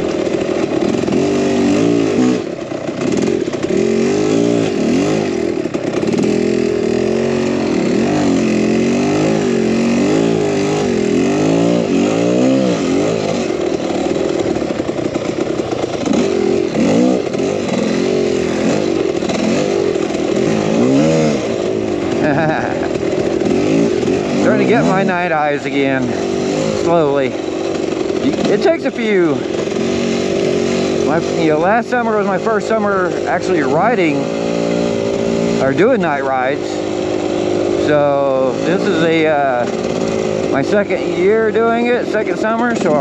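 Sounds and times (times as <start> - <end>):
two-stroke dirt bike engine: 0.0 - 43.0.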